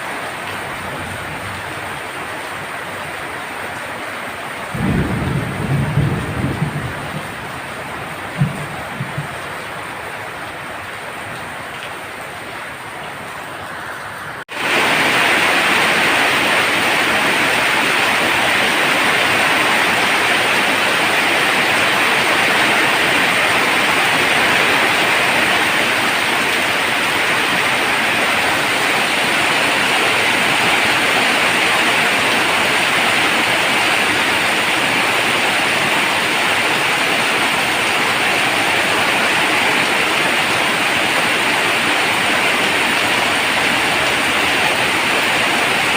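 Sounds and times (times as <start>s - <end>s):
heavy rain on a tin roof: 0.0s - 45.9s.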